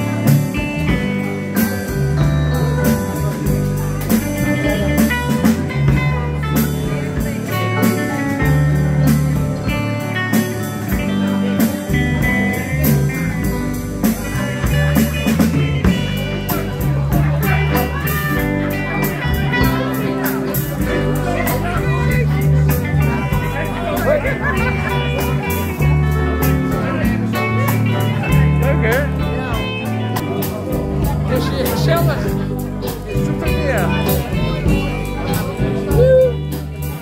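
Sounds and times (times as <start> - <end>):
drum kit beat: 0.0 - 37.0
electric guitars: 0.0 - 37.0.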